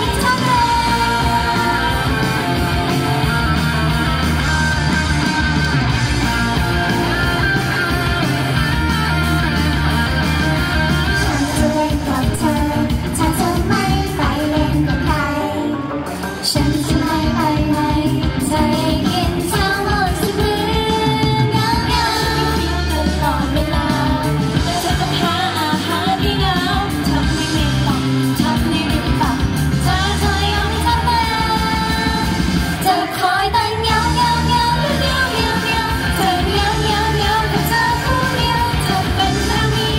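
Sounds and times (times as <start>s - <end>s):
woman singing: 0.0s - 3.4s, 11.1s - 39.9s
pop-rock song with electric guitar: 0.0s - 39.9s.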